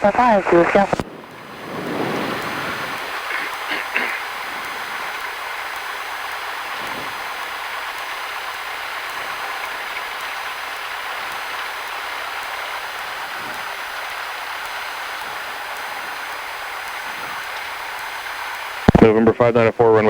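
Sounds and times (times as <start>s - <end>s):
aircraft engine idling hiss: 0.0s - 20.0s.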